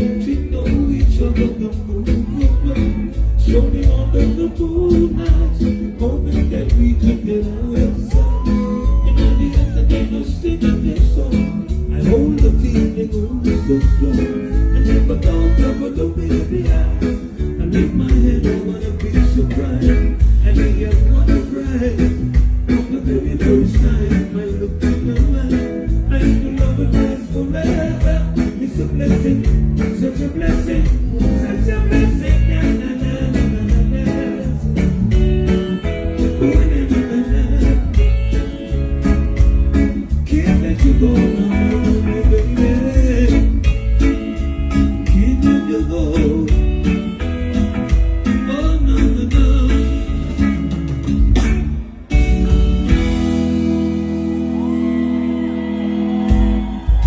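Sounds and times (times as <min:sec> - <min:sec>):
steady drum beat: 0:00.0 - 0:53.9, 0:56.1 - 0:57.0
guitar: 0:00.0 - 0:57.0
heavy bass line: 0:00.0 - 0:57.0.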